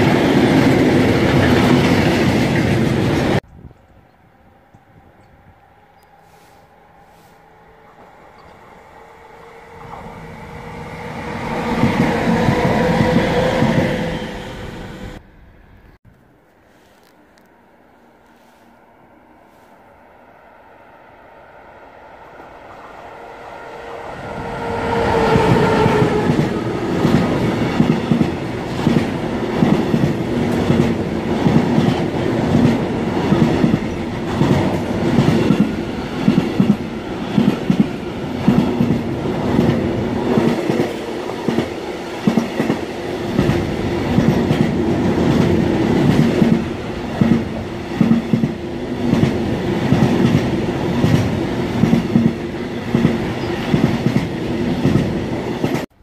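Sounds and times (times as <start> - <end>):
locomotive whine: 0.0 - 16.0, 17.9 - 55.8.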